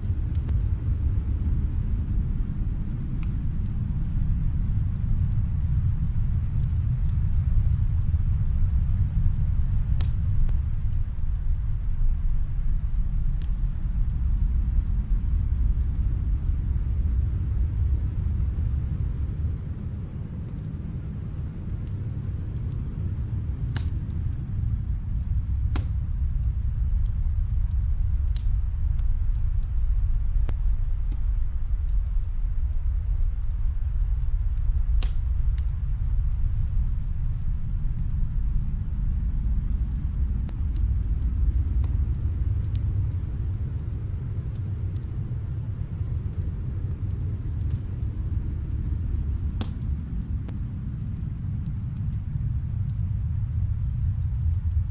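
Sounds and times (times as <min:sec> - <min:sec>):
fireplace crackling: 0:00.0 - 0:54.9
low rumble: 0:00.0 - 0:54.9.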